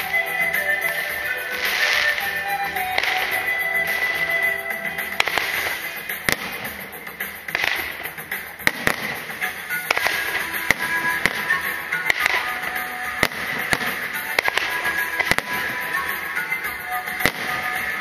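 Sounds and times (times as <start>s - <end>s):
fireworks bangs: 0.0s - 18.0s
music playing: 0.0s - 18.0s.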